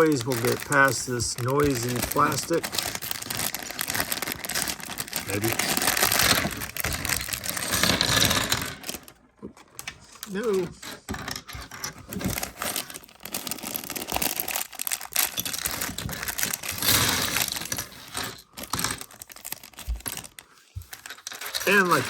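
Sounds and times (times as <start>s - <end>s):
plastic packaging crinkling and tearing: 0.0s - 9.2s, 12.1s - 22.0s.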